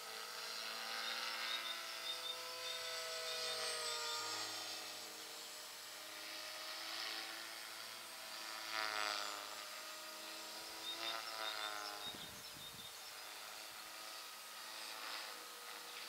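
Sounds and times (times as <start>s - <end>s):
rc helicopter motor whine: 0.0s - 16.0s.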